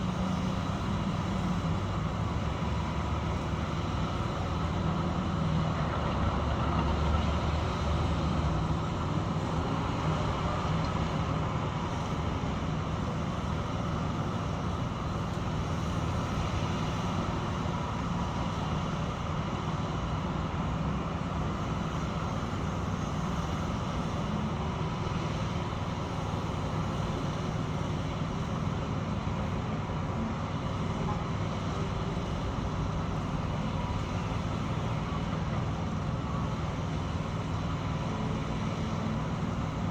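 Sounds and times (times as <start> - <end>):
construction machinery engine drone: 0.0 - 39.9.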